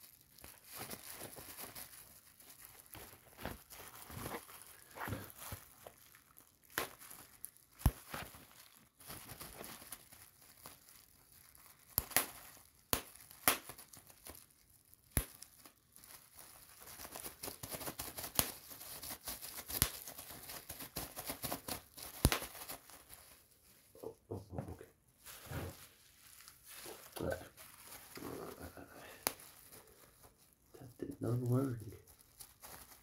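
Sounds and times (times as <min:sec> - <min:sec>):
bubble wrap popping: 0:00.0 - 0:24.1, 0:25.1 - 0:33.0
plastic crackling rustle: 0:00.0 - 0:24.1, 0:25.1 - 0:33.0.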